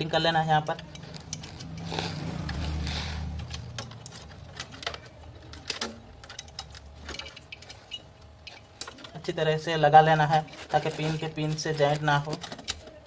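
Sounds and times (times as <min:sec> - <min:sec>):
wire connectors clicking and rustling: 0:00.0 - 0:13.0.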